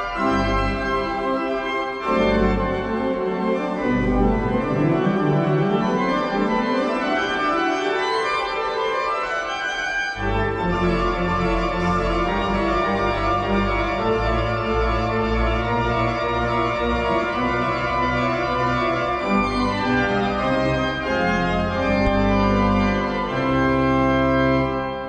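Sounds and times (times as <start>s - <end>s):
organ music with held chords: 0.0s - 25.0s.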